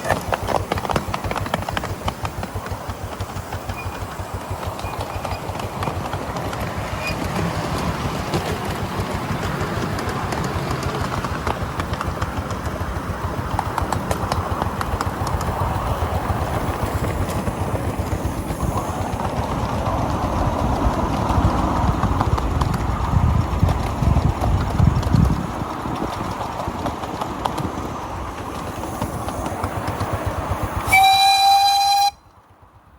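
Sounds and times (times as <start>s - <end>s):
clicking over rail joints: 0.0s - 32.8s
miniature train wheels rumbling: 0.0s - 32.9s.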